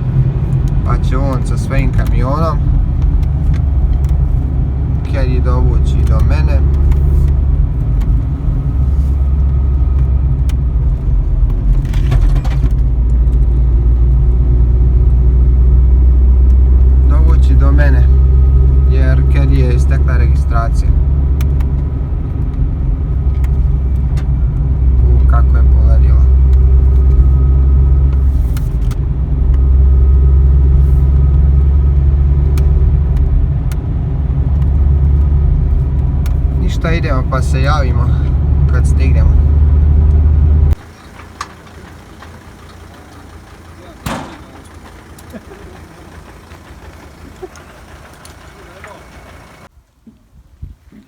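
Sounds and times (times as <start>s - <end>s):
car engine hum: 0.0s - 49.7s
road noise: 0.0s - 49.9s.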